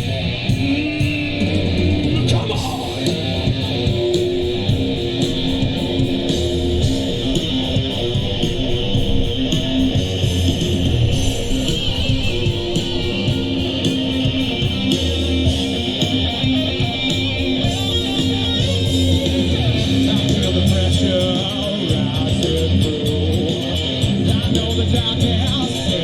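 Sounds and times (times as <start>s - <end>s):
live rock band playing: 0.0s - 26.0s
strummed electric guitar: 0.0s - 26.0s.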